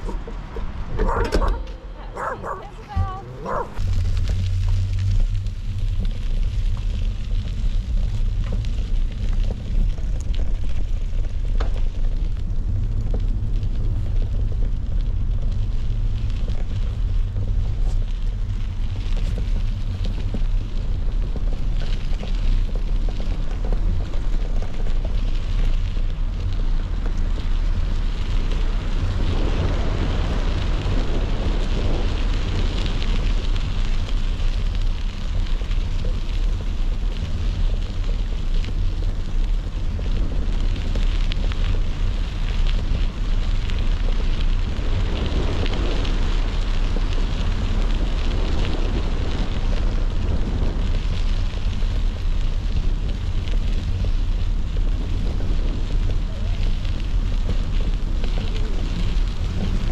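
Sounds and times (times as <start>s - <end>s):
bicycle tyres on sandy road: 0.0s - 59.9s
wind buffeting microphone: 0.0s - 59.9s.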